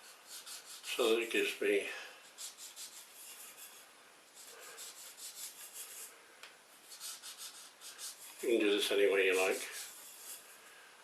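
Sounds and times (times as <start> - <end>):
faint hand rubbing strokes: 0.0 - 10.8.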